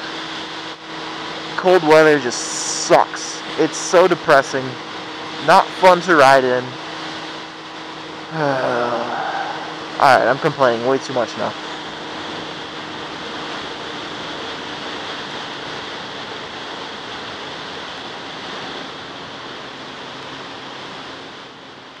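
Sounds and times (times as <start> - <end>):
faint motorcycle engine hum: 0.0 - 22.0.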